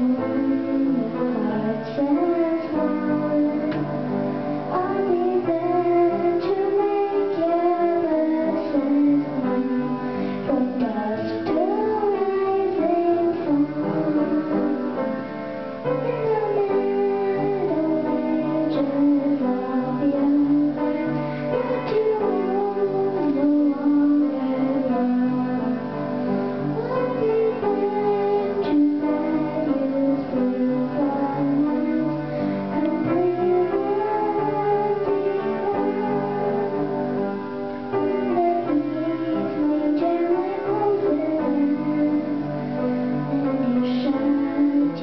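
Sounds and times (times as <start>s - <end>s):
girl singing into microphone: 0.0s - 45.0s
instrumental accompaniment with piano: 0.0s - 45.0s.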